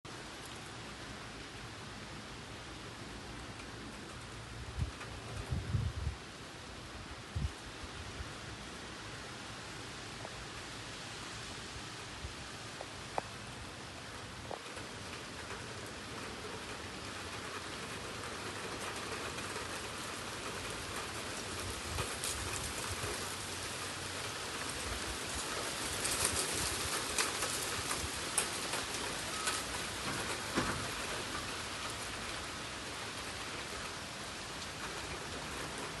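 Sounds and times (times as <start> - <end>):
rain falling: 0.1 - 36.0.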